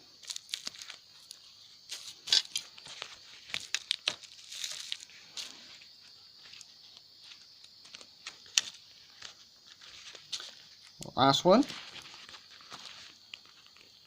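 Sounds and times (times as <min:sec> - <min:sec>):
plastic wrapping crinkling: 0:00.2 - 0:05.8, 0:06.4 - 0:14.0.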